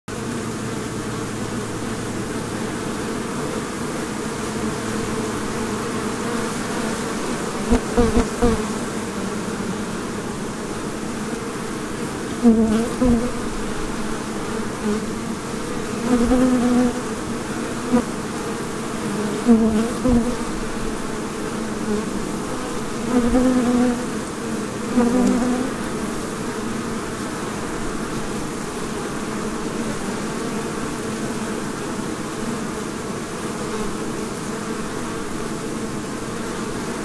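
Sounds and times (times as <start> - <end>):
bees humming at hive: 0.1 - 37.0
single bee buzzing close: 0.1 - 37.0.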